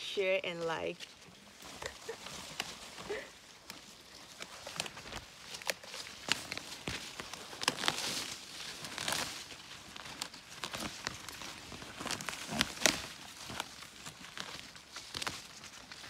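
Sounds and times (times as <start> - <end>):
dry leaves and stems crackling: 0.0 - 16.0.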